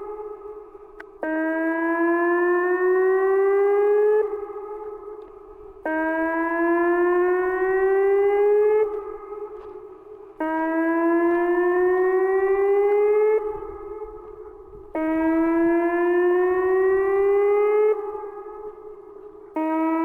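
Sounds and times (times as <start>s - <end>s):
emergency warning siren: 0.0s - 20.0s.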